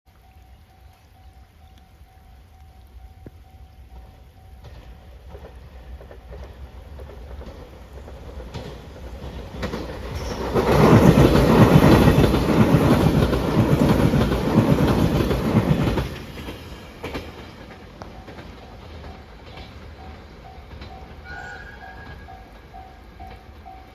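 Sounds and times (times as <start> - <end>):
train passing close by: 1.2 - 23.9.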